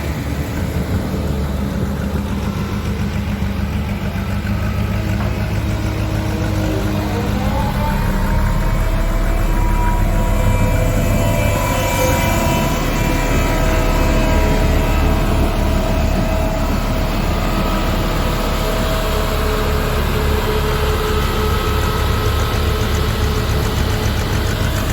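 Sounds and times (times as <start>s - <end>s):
road roller diesel engine running: 0.0s - 24.9s.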